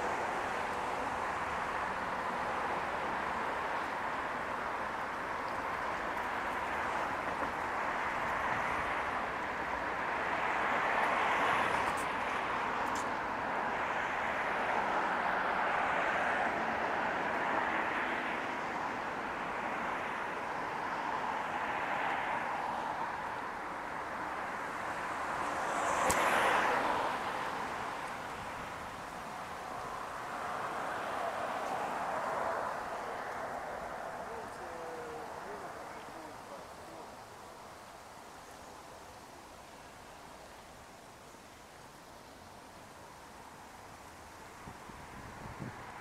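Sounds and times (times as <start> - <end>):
cars passing: 0.0 - 46.0.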